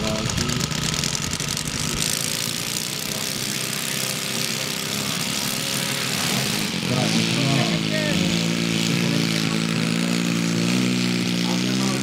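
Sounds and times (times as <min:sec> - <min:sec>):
model plane engine idling: 0:00.0 - 0:12.0.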